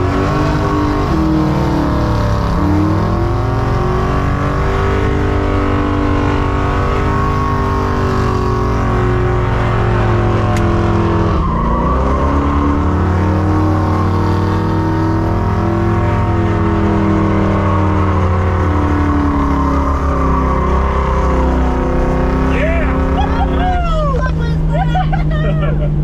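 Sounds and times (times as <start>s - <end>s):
car engine revving high: 0.0s - 26.0s.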